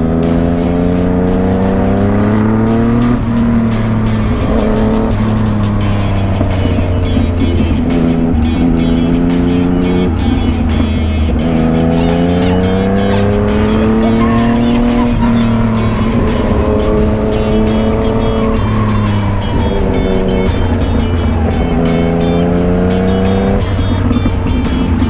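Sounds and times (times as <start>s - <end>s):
background music with a beat: 0.0s - 25.0s
motorcycle engine accelerating: 0.0s - 25.0s.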